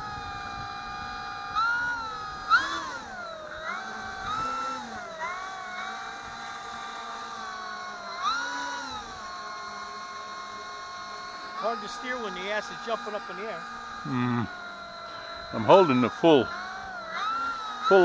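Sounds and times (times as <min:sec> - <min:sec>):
electric motor and propeller whining: 0:00.0 - 0:18.0.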